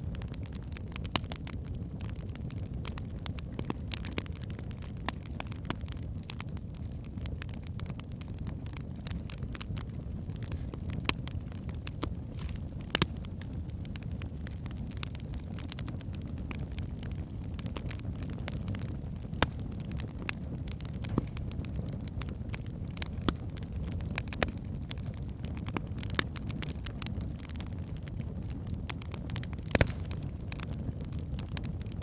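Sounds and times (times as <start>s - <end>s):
fire burning in fireplace: 0.0s - 32.0s
wood crackling and popping: 0.0s - 32.0s.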